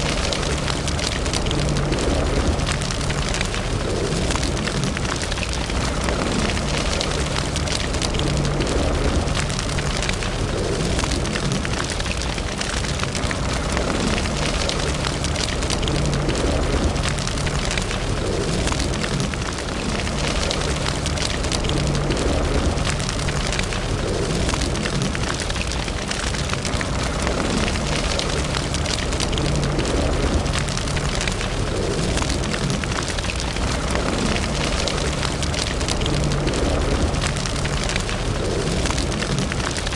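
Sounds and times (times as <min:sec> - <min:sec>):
low rumble: 0:00.0 - 0:39.9
wood fire crackling and popping: 0:00.0 - 0:39.9.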